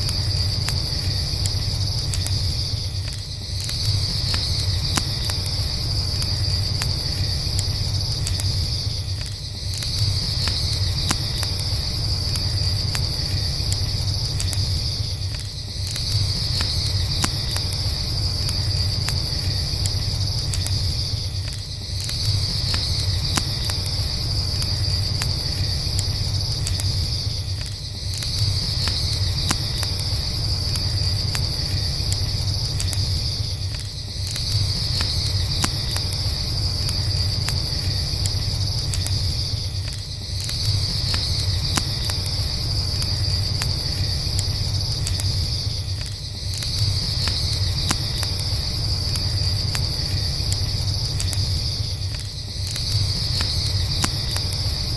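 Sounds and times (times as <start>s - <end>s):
campfire crackling: 0.0s - 54.9s
crickets trilling: 0.0s - 54.9s.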